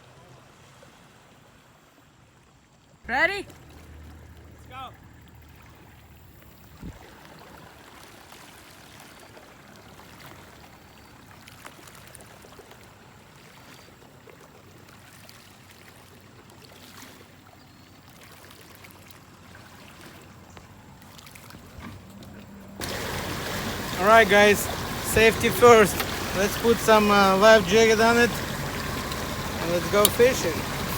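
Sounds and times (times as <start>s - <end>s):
river water flowing: 0.0s - 30.9s.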